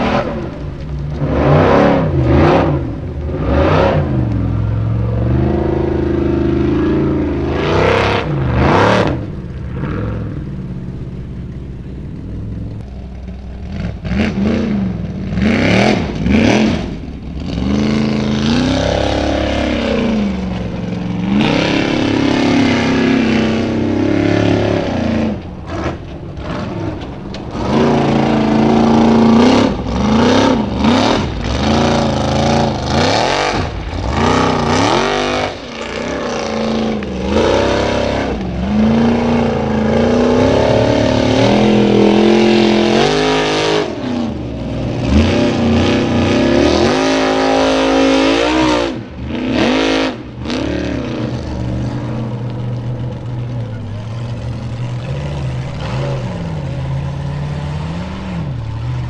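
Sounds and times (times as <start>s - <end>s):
buggy engine revving hard: 0.0s - 59.0s.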